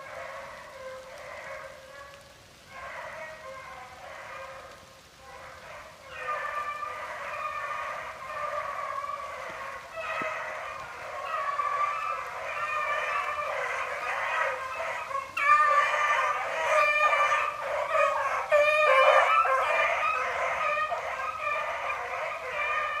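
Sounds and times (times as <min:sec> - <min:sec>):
hounds baying: 0:00.0 - 0:23.0.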